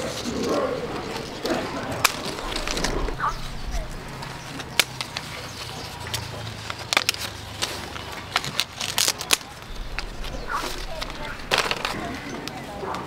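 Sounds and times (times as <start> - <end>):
leaves rustling: 0.0 - 12.8.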